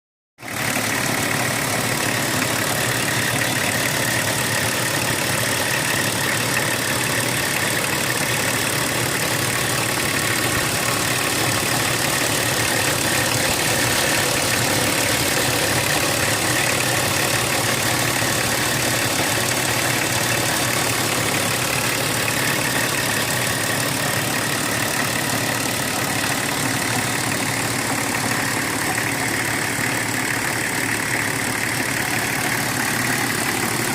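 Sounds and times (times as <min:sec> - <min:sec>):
diesel engine idling: 0:00.4 - 0:33.9.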